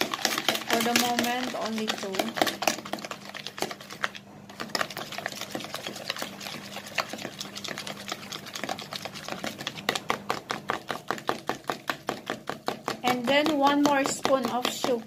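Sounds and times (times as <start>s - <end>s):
whisk clicking against bowl: 0.0s - 15.0s.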